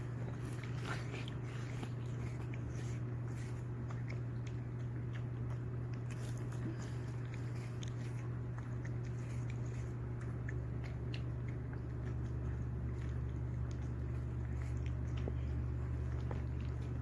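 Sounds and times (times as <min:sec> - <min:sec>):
dog chewing watermelon: 0:00.0 - 0:17.0
steady low hum: 0:00.0 - 0:17.0.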